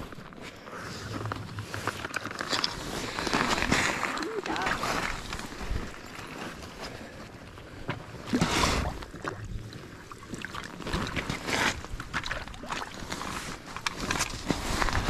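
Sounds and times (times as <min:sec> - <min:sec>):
rustling and handling noises: 0:00.0 - 0:15.0.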